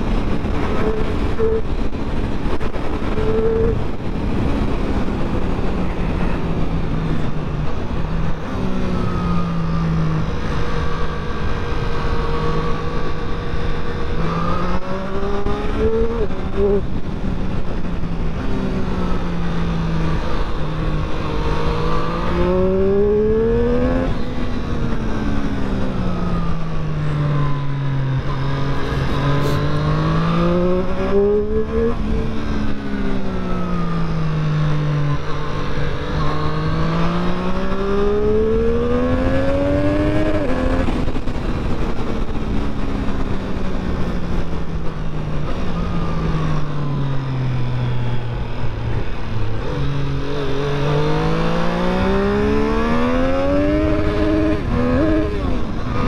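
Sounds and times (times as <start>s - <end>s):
wind and road rush: 0.0s - 56.0s
motorcycle engine revving: 6.8s - 17.2s, 17.8s - 56.0s.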